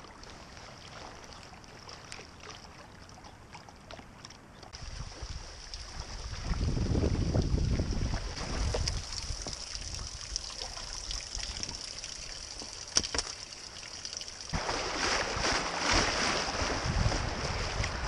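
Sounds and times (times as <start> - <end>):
water rushing and splashing: 0.0 - 18.0.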